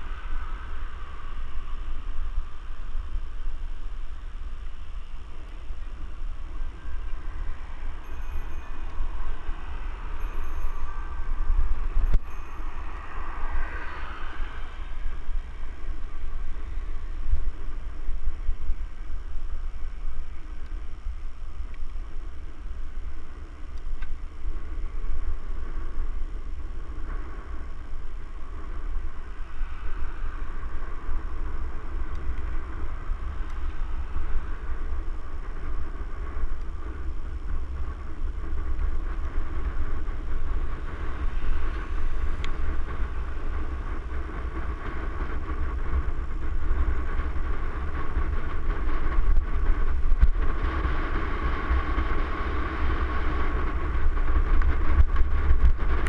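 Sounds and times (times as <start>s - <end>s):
low rumble: 0.0s - 56.0s
wind noise hiss: 0.0s - 56.0s.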